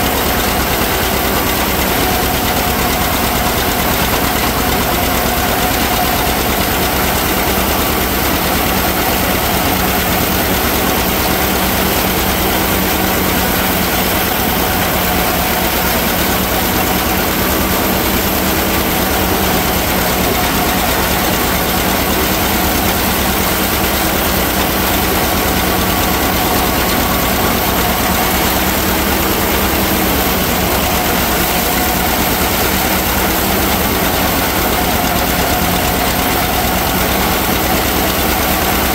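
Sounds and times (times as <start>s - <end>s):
tractor and forage harvester droning: 0.0s - 38.9s.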